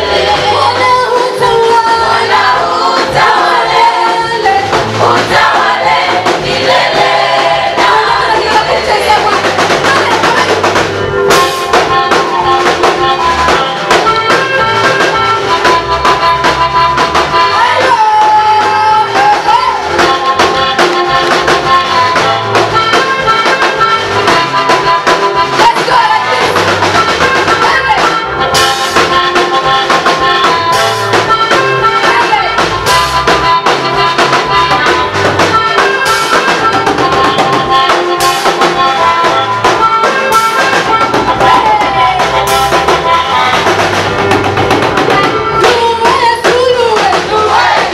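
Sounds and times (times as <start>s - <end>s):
voices singing: 0.0s - 10.9s, 11.6s - 47.9s
drum kit: 0.0s - 47.9s
gospel band playing: 0.0s - 47.9s
held keyboard notes: 0.0s - 47.9s.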